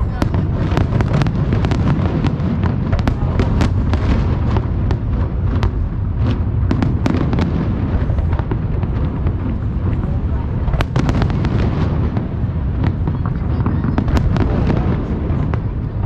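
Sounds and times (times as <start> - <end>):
deep rumble of booming shells: 0.0 - 16.0
fireworks cracking and popping: 0.0 - 16.0.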